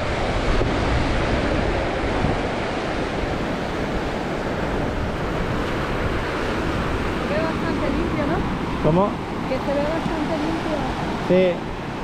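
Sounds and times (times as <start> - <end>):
waves breaking on sandy beach: 0.0 - 12.0
wind buffeting microphone: 0.0 - 12.0.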